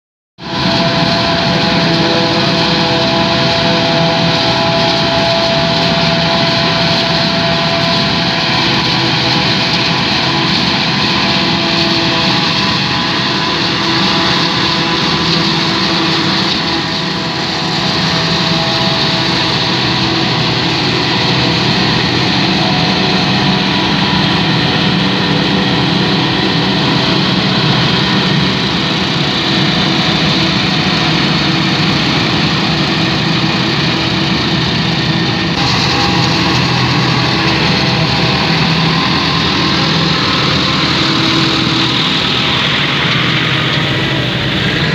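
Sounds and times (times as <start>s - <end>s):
harvester and tractor machinery drone: 0.4s - 44.9s.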